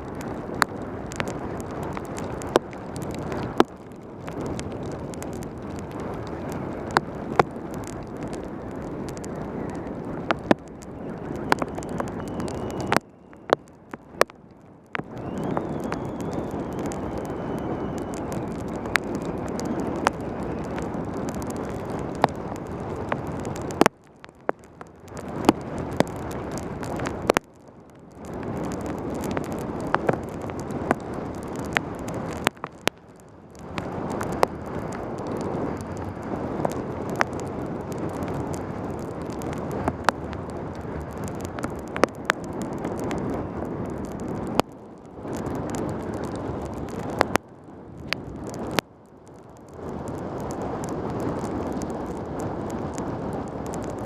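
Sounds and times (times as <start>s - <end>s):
wind and road rush: 0.0s - 54.0s.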